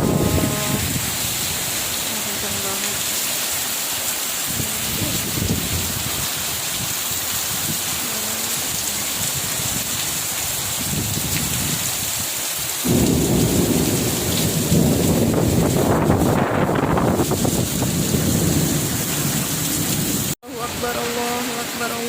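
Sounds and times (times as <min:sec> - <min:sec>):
heavy rain in strong wind: 0:00.0 - 0:22.0.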